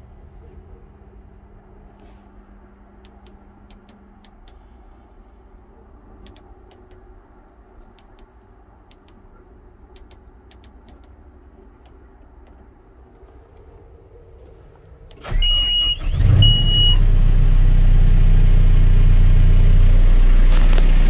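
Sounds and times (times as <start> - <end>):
diesel engine cranking and idling: 0.0 - 21.0.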